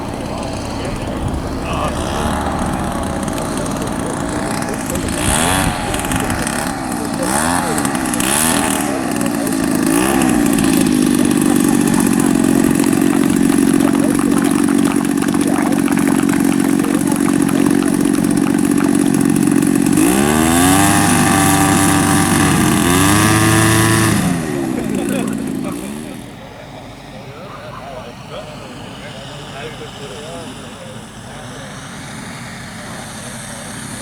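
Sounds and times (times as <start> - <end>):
model aircraft engine: 0.0 - 34.0.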